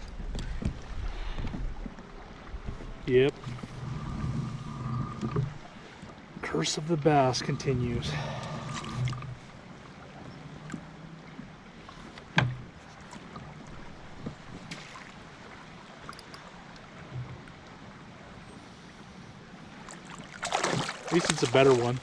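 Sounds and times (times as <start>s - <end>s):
faint wind: 0.0s - 22.0s
water around kayak: 0.0s - 22.0s.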